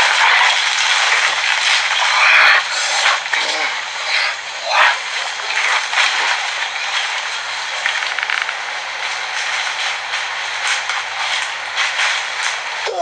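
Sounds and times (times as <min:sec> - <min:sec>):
steady rushing hiss: 0:00.0 - 0:13.0.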